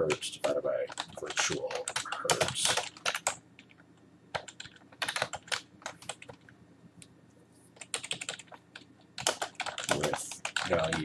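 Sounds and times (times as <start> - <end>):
keyboard typing: 0.0 - 6.6, 7.8 - 11.0.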